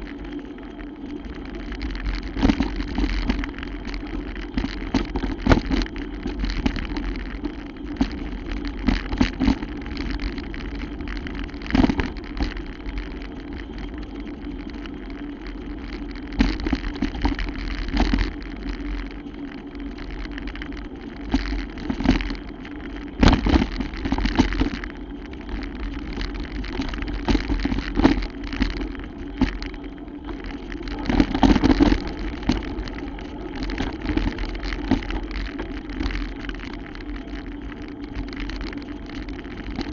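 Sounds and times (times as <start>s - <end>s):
bicycle riding rumble: 0.0s - 39.9s
bike rattling over bumps: 0.0s - 39.9s.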